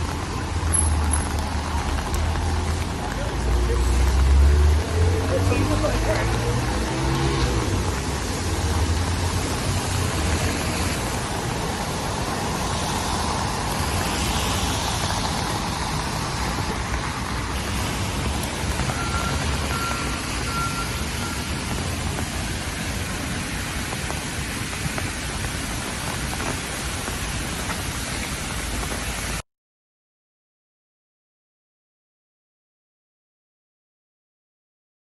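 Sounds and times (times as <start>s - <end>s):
steady rain: 0.0s - 29.4s
tyres hissing on wet road: 0.0s - 29.4s
vehicle rumble: 0.0s - 29.4s.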